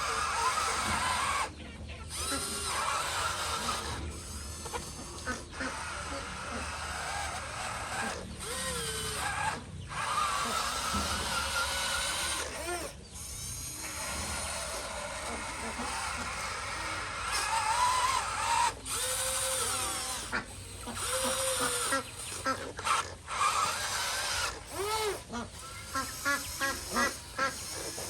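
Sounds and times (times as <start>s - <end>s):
small electric motors whirring: 0.0s - 28.0s.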